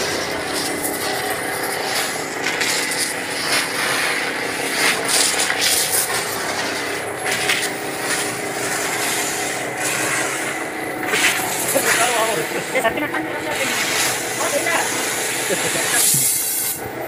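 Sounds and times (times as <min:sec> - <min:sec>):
hose water spraying on truck: 0:00.0 - 0:17.0
machine hum: 0:00.0 - 0:17.0.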